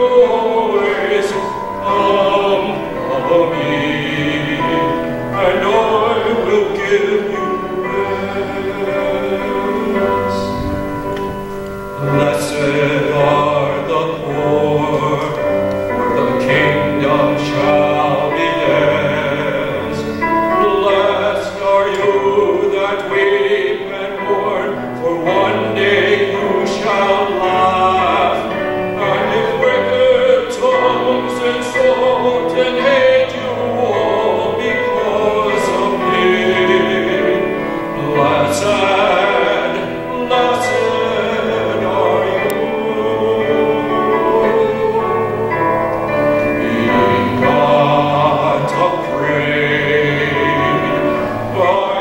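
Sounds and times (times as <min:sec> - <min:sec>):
hymn singing with accompaniment: 0:00.0 - 0:52.0.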